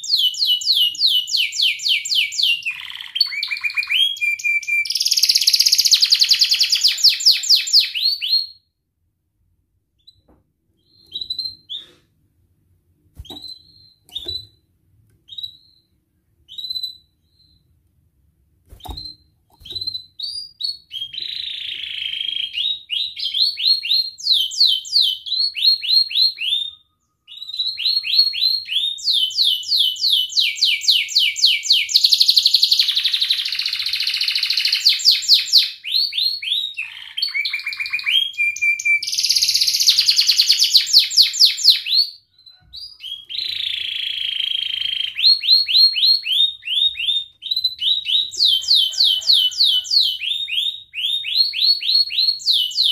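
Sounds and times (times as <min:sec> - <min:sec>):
canary singing: 0:00.0 - 0:08.6, 0:10.0 - 0:12.0, 0:13.2 - 0:17.8, 0:18.7 - 0:52.9.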